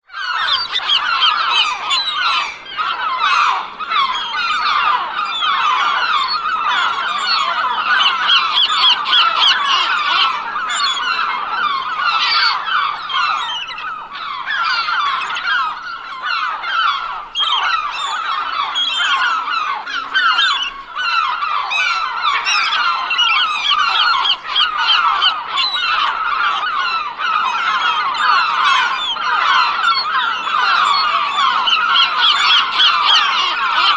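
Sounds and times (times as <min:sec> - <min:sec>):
geese honking: 0:00.2 - 0:33.9.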